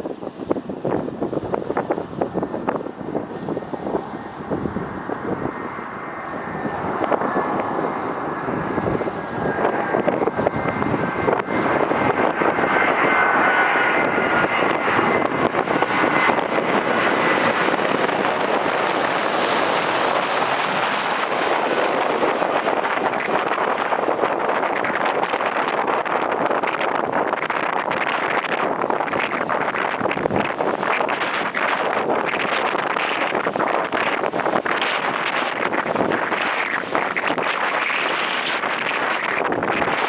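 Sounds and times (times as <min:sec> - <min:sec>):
high fan whine: 0:00.0 - 0:40.0
jet engines rumbling: 0:00.0 - 0:40.0
wind gusts on microphone: 0:00.0 - 0:40.0.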